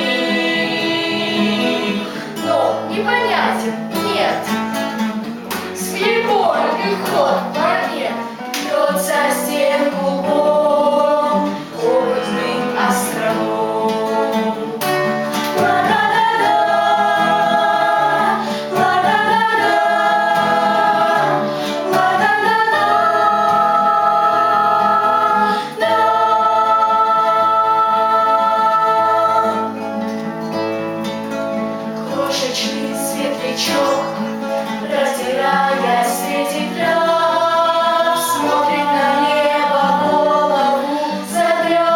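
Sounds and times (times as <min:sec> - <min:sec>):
acoustic guitar: 0:00.0 - 0:41.9
vocal ensemble singing: 0:00.0 - 0:41.9.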